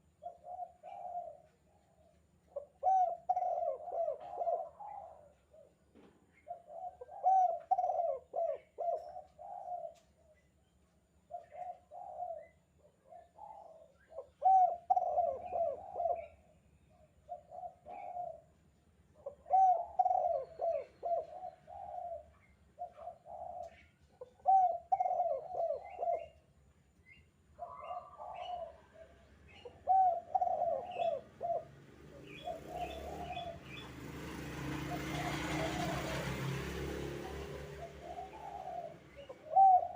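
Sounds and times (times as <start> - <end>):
dove cooing: 0.0 - 10.4, 11.2 - 39.9.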